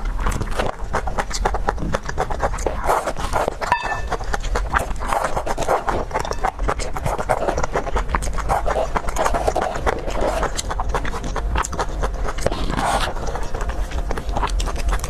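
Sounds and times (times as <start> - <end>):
wet chewing and mouth clicks: 0.0 - 15.0.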